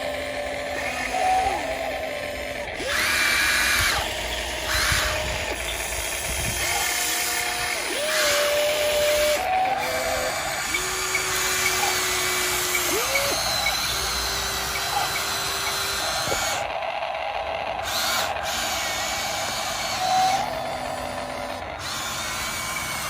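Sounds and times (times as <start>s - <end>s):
electric motors and hydraulic pump whining: 0.0s - 23.0s.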